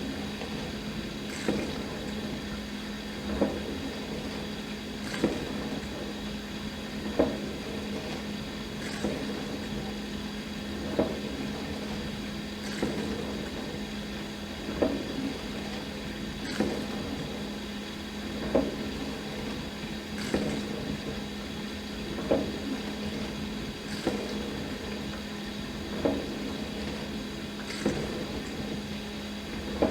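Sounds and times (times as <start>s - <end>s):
dishwasher pump motor hum: 0.0s - 29.9s.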